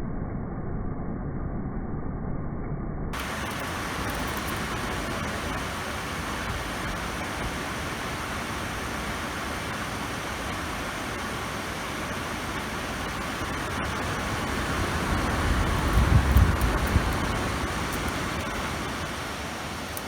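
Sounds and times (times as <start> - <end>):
air purifier fan rushing: 3.2 - 20.0.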